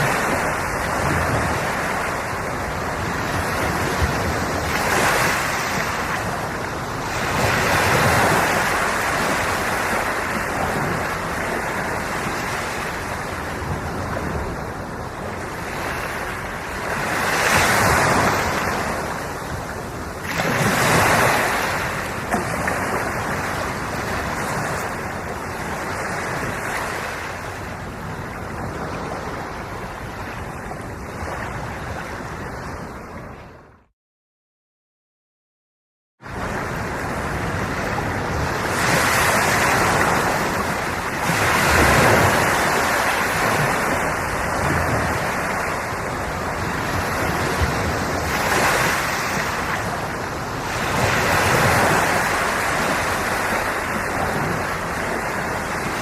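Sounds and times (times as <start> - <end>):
ocean waves washing in: 0.0 - 33.8, 36.2 - 56.0.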